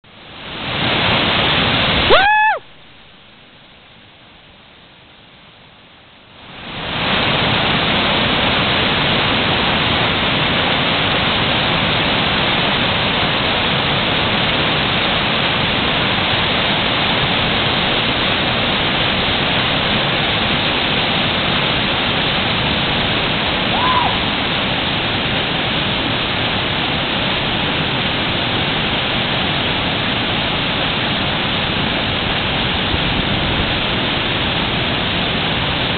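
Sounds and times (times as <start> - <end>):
waterfall roar: 0.1 - 3.3, 4.9 - 35.9.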